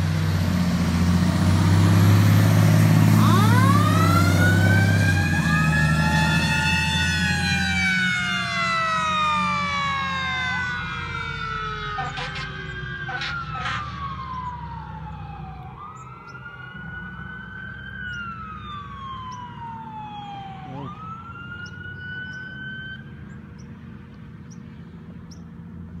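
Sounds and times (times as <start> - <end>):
fire engine siren wailing: 0.0 - 23.8
truck engine running: 0.0 - 26.0.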